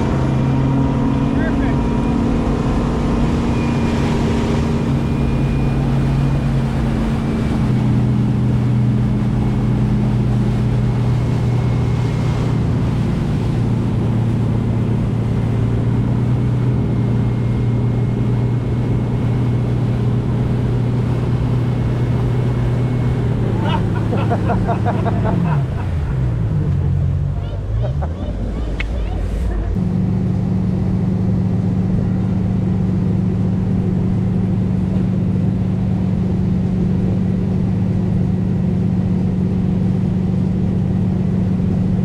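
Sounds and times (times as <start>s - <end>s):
motorboat engine running: 0.0s - 42.0s
water noise: 0.0s - 42.0s
wind: 0.0s - 42.0s.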